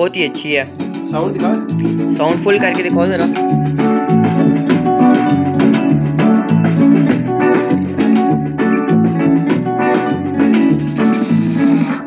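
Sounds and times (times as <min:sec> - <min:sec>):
upbeat jingle music from tv speakers: 0:00.0 - 0:12.0.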